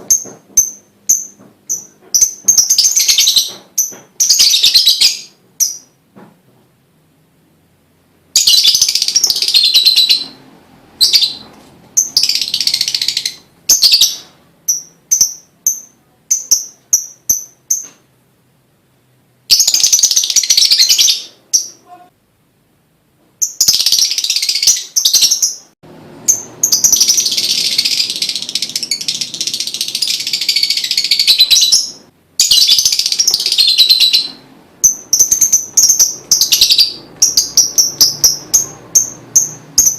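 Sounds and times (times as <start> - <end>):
bird chirps: 0.0 - 6.0, 8.4 - 18.0, 19.5 - 22.1, 23.4 - 39.9.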